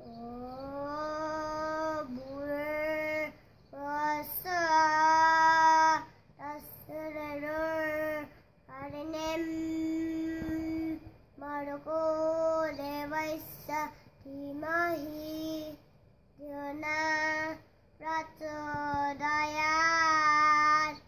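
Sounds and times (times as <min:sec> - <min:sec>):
boy singing unaccompanied: 0:00.0 - 0:21.0.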